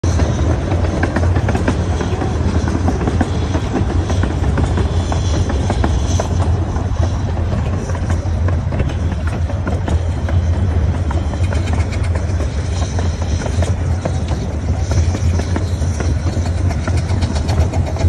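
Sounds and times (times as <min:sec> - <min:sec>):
miniature train rumbling: 0:00.0 - 0:18.0
wheels rattling and clicking: 0:00.0 - 0:18.0.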